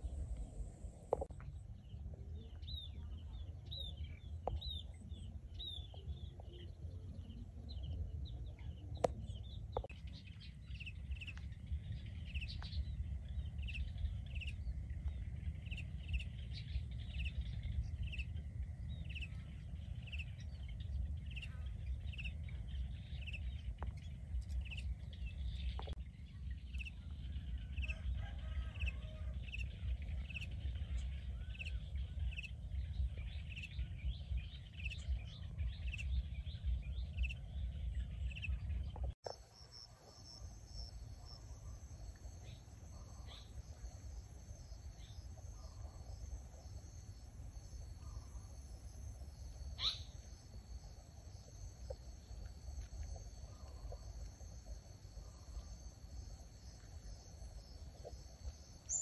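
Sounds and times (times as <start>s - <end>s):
low rumble: 0.0s - 28.2s, 29.3s - 58.9s
small birds chirping: 1.2s - 59.0s.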